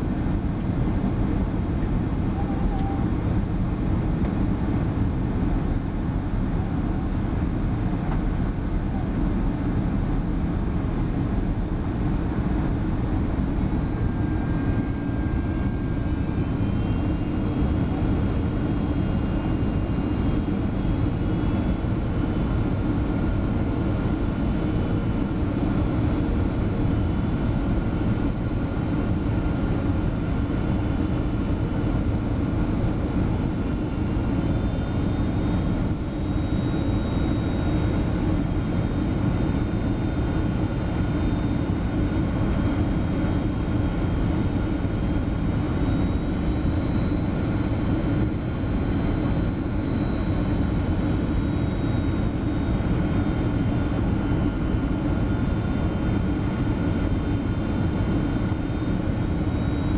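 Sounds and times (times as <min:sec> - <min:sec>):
jet engines droning: 0:00.0 - 0:59.9
faint high whining tones: 0:00.2 - 0:59.9.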